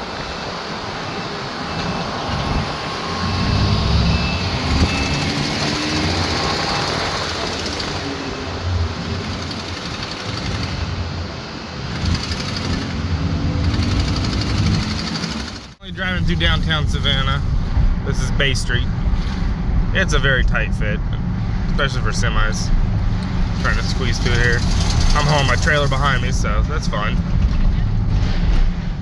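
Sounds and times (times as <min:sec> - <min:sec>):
road noise: 0:00.0 - 0:29.0
van engine: 0:00.0 - 0:29.0.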